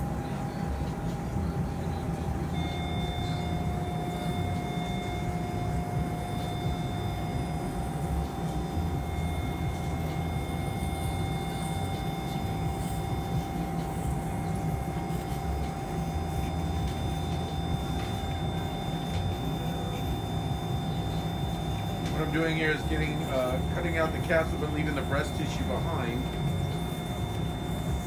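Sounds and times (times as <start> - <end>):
equipment hum and rumble: 0.0 - 28.0
thin electronic whine: 0.0 - 28.0.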